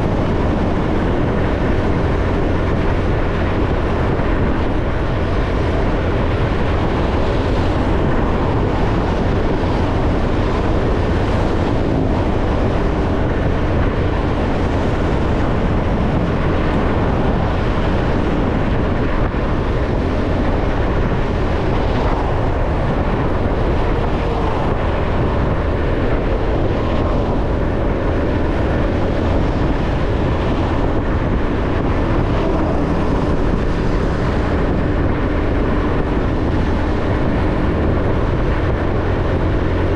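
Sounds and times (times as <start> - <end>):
motorcycle riding on road: 0.0 - 39.9.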